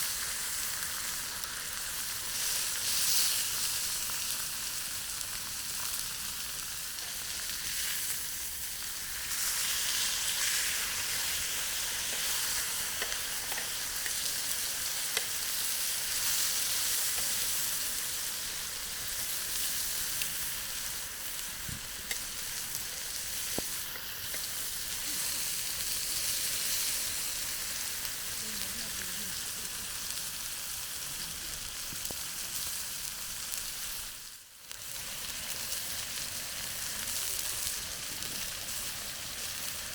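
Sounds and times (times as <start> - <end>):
chicken sizzling in a pan: 0.0 - 39.9.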